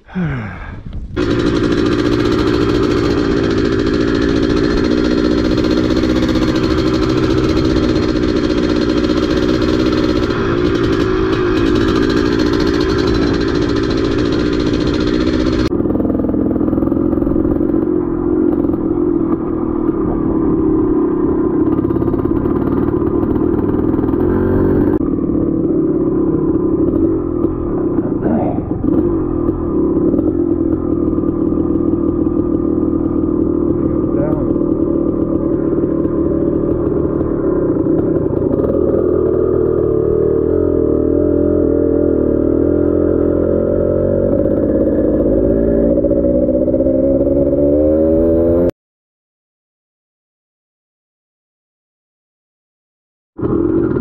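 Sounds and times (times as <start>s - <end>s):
dirt bike engine running: 0.0s - 48.7s, 53.4s - 54.0s.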